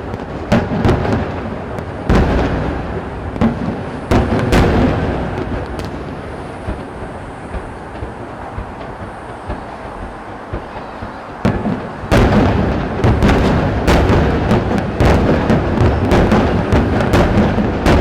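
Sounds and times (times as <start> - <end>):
booming firework bursts and crackles: 0.0 - 18.0
firework bang: 0.0 - 18.0
firework shell bursts rumbling: 0.0 - 18.0.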